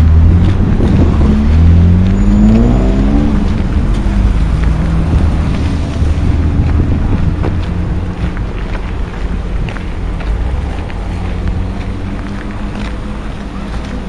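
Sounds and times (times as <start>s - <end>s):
train passing rumble: 0.0s - 14.0s.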